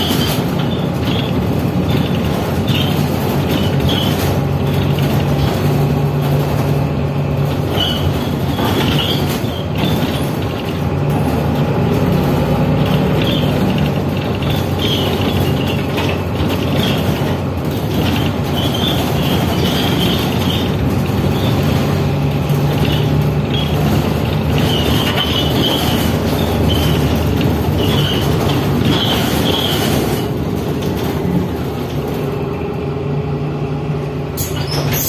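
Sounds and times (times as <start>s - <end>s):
high wheel squeal: 0.0s - 6.7s, 7.3s - 11.3s, 12.0s - 31.4s, 34.4s - 35.0s
tram wheels rumbling on track: 0.0s - 35.0s.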